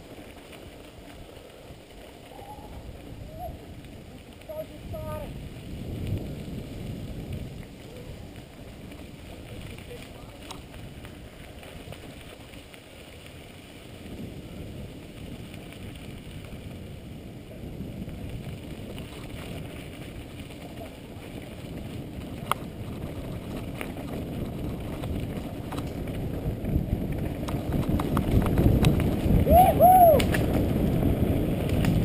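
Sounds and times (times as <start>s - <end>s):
bike tyres rolling on dirt: 0.0s - 32.0s
wind buffeting microphone: 0.6s - 32.0s.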